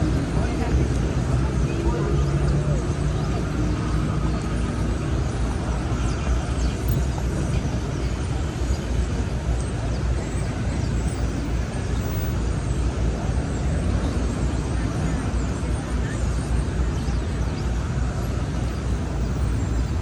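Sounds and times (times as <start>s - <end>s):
cars passing: 0.0s - 20.0s
road traffic rumble: 0.0s - 20.0s.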